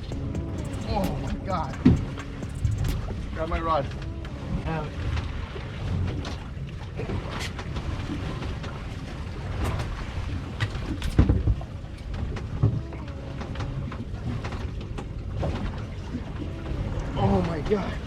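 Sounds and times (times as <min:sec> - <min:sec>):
knocks and thumps on boat: 0:00.0 - 0:18.0
wind and water rumble: 0:00.0 - 0:18.0.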